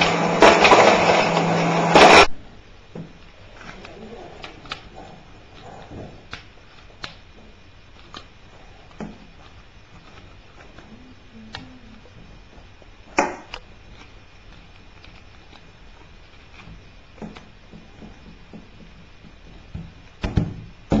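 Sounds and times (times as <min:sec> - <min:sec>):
low steady hiss: 0:02.3 - 0:21.0.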